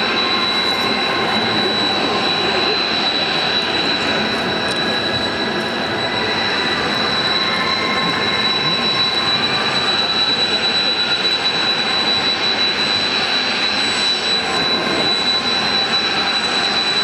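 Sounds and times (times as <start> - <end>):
jet engines high-pitched whine: 0.0 - 17.0.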